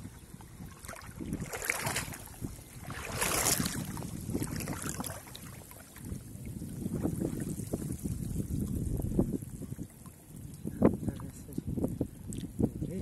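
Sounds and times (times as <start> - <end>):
shallow water splashing: 0.0 - 11.4
wind rumbling on microphone: 0.0 - 13.0.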